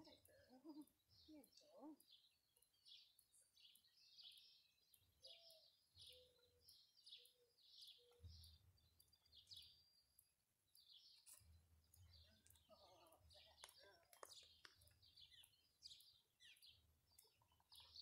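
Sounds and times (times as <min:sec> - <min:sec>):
quiet outdoor background noise: 0:00.0 - 0:18.0
small birds chirping: 0:00.0 - 0:18.0.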